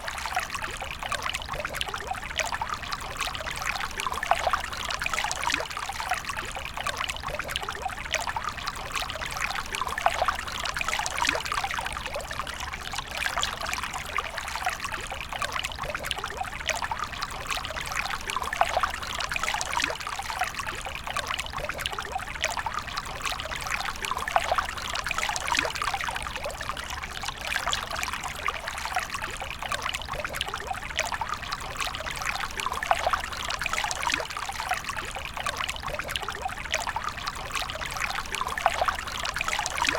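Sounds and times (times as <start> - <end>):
tiny water splashes: 0.0 - 39.9
water trickling and pouring: 0.0 - 39.9.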